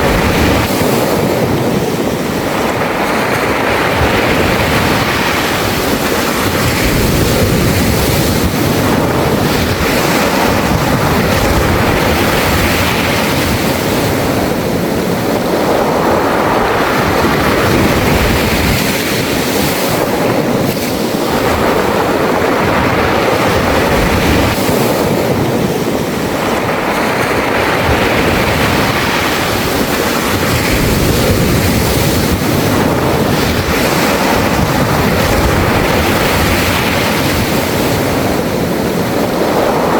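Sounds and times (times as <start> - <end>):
sea waves washing over pebbles: 0.0 - 39.9.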